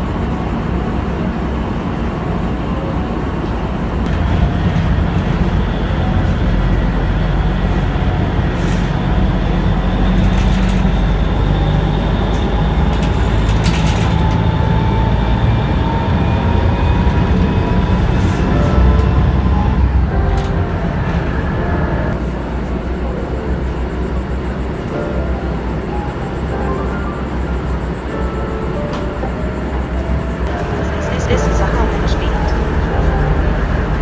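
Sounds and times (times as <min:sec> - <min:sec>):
vehicle engine rumble: 0:00.0 - 0:34.0.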